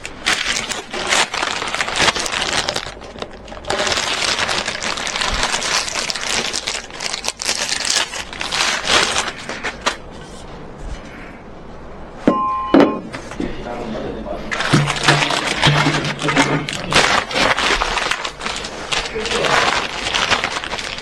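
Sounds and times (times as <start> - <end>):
rustling and crinkling handling noise: 0.0 - 11.9, 14.4 - 21.0.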